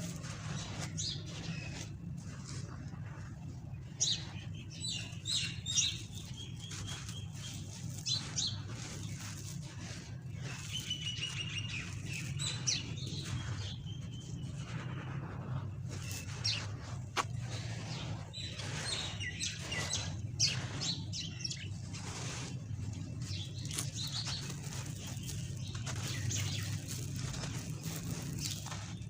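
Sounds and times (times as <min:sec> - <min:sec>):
small birds chirping and trilling: 0:00.0 - 0:29.0
steady low hum: 0:00.0 - 0:29.0.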